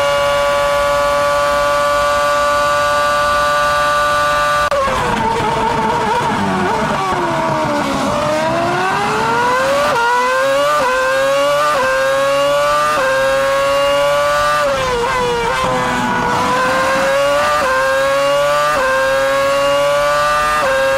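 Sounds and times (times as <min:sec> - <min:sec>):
racing car engine shifting gears: 0:00.0 - 0:20.9.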